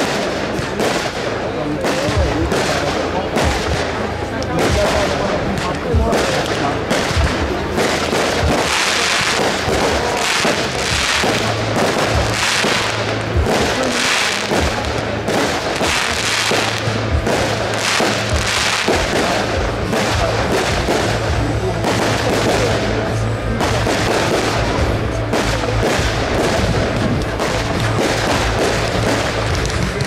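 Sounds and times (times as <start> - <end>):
crackling pops: 0.0 - 30.0
fireworks launching and bursting: 0.0 - 30.0.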